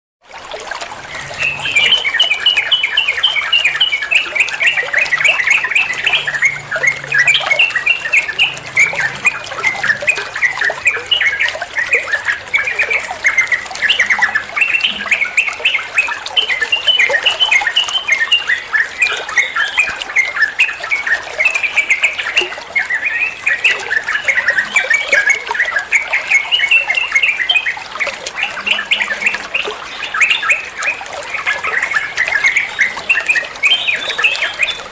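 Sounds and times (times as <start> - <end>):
bird singing rapid chattering notes: 1.0 - 34.9.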